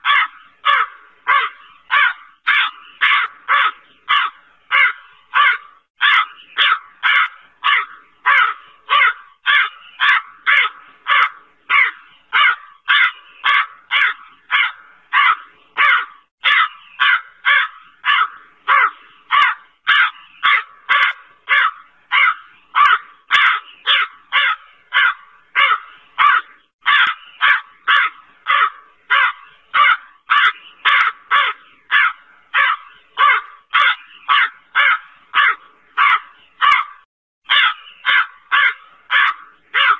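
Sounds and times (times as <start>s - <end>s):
crow cawing: 0.0s - 39.9s.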